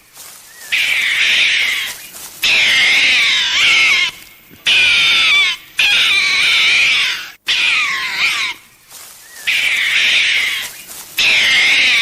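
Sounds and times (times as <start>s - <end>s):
animal calling with high-pitched calls: 0.4s - 8.6s, 9.2s - 12.0s.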